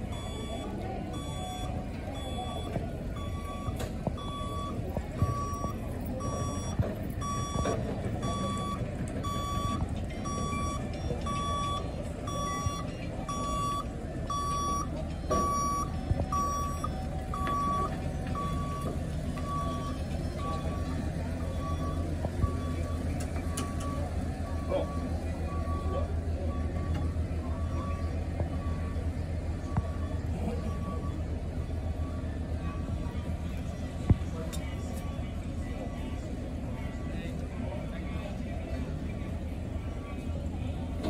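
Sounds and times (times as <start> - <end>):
high warning beeps: 0.0 - 33.9
tram rolling rumble: 0.0 - 41.0.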